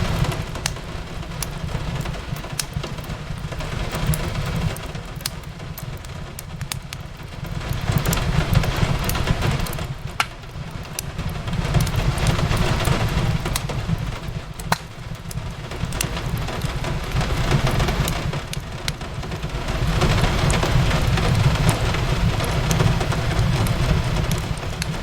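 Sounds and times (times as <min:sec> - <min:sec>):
steady rain: 0:00.0 - 0:25.0
wood fire crackling: 0:00.0 - 0:25.0.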